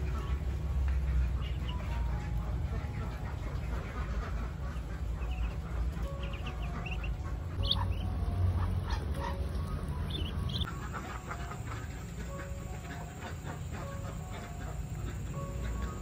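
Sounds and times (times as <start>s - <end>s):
ducklings peeping: 0.0s - 16.0s
low steady rumble: 0.0s - 16.0s.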